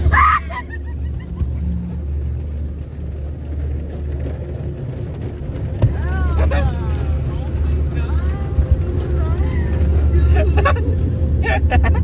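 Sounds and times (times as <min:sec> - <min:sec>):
car wash low rumble: 0:00.0 - 0:12.0.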